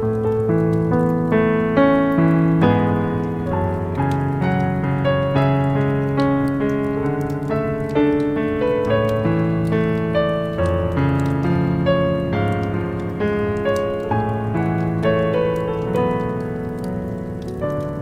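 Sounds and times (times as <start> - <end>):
fire crackling: 0.0 - 18.0
slow gentle piano music: 0.0 - 18.0.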